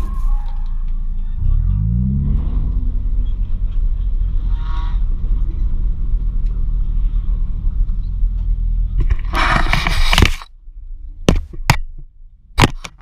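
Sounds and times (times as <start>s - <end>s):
car engine droning: 0.0s - 12.6s.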